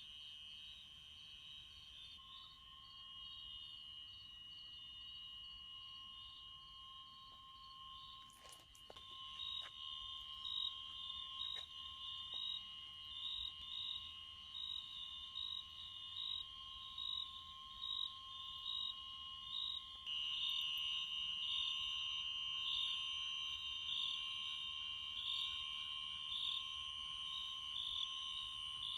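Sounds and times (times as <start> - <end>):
high-pitched insect trills: 0.0 - 28.9
loud insect trill: 0.0 - 28.9
repeating insect chirp: 0.0 - 28.9.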